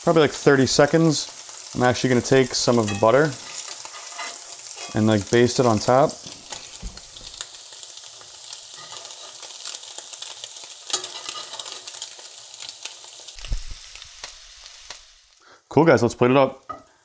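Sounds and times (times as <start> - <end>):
scallops sizzling in a skillet: 0.0 - 15.4.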